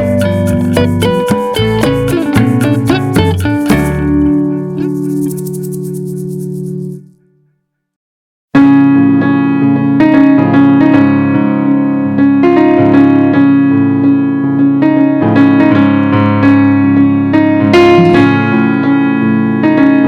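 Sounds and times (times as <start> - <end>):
piano music: 0.0 - 7.0, 8.6 - 20.0.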